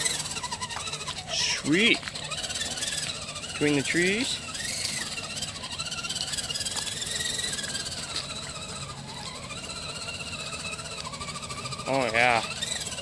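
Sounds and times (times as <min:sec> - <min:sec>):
electric motor and gears whining: 0:00.0 - 0:13.0.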